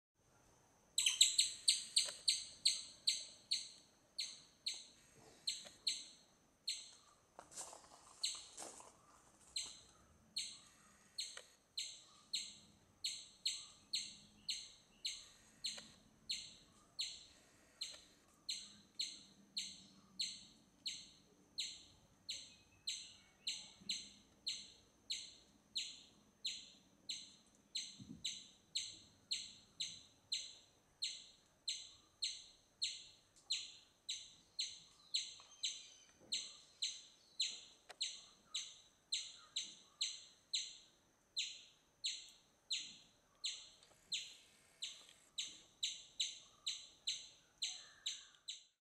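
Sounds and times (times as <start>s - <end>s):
bird chirping: 1.0s - 7.2s, 8.1s - 48.8s.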